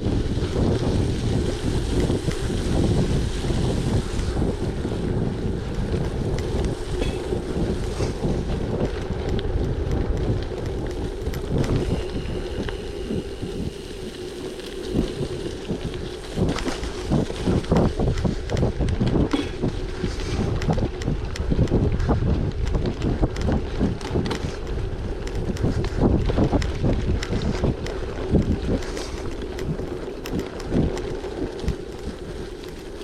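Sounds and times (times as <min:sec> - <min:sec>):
bike bumps and rattles: 0:00.0 - 0:33.0
bike rolling on gravel: 0:00.0 - 0:33.0
wind buffeting microphone: 0:00.0 - 0:33.0.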